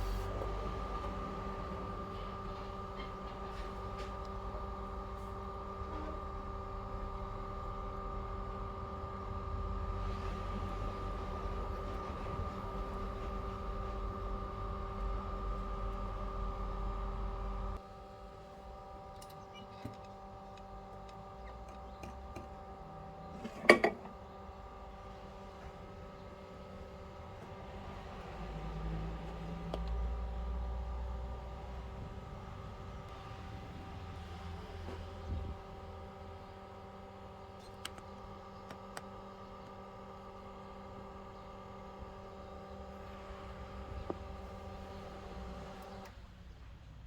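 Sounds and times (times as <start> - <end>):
machine hum: 0.0 - 46.2.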